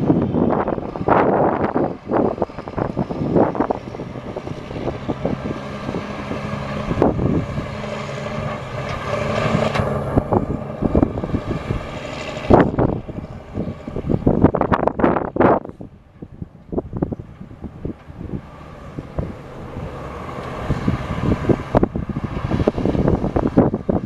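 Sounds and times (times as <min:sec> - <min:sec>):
diesel truck engine running: 0:00.0 - 0:24.0
wind buffeting microphone: 0:00.0 - 0:24.0.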